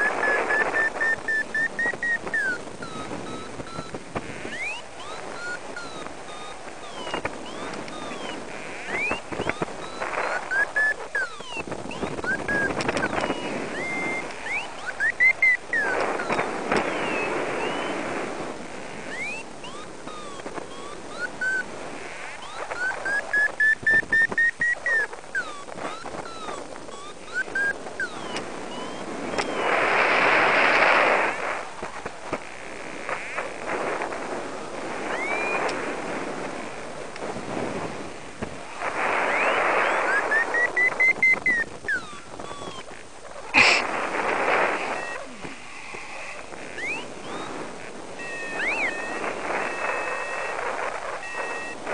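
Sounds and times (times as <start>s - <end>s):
variometer beeping: 0.0s - 30.8s, 34.8s - 36.4s, 38.8s - 51.9s
wind rushing over microphone: 0.0s - 51.9s.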